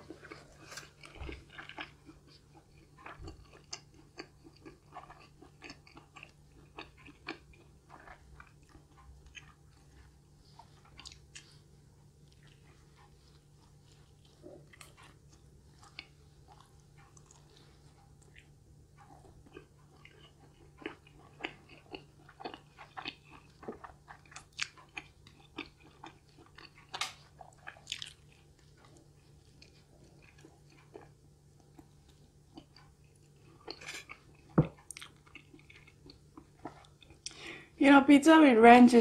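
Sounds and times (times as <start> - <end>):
chewing pizza: 0.0 - 37.7.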